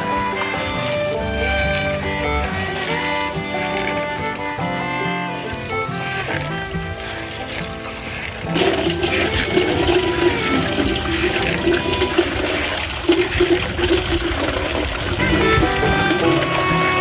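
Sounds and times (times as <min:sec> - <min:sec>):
background music: 0:00.0 - 0:17.0
rushing splashing water: 0:00.0 - 0:17.0.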